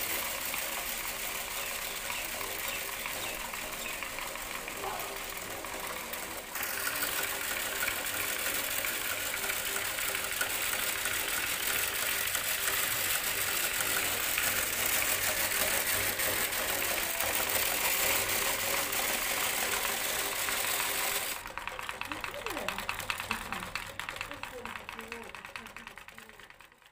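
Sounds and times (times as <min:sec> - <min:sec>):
grain sieve machine rattling: 0:00.0 - 0:26.9.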